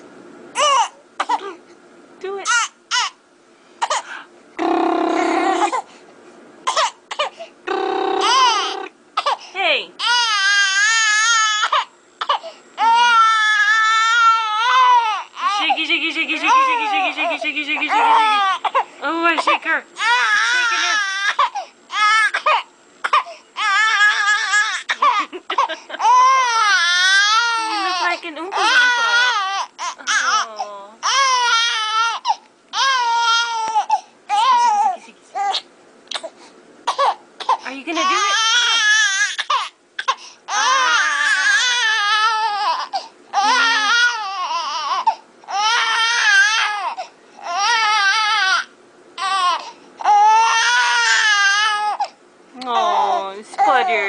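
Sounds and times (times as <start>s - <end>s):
baby crying: 0.6s - 1.5s, 2.4s - 3.2s, 4.6s - 5.9s, 6.7s - 9.4s, 10.0s - 15.8s, 16.4s - 18.8s, 19.4s - 35.6s, 36.9s - 52.2s.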